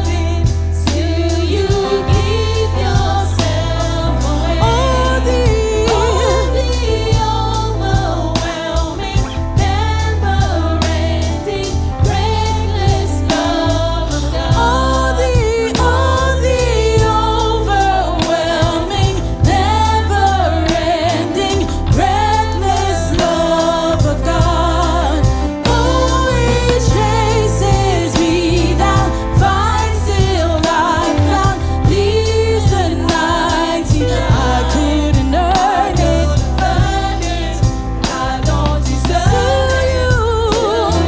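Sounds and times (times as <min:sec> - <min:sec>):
band with heavy bass: 0:00.0 - 0:41.0
voices singing worship song: 0:00.0 - 0:41.0.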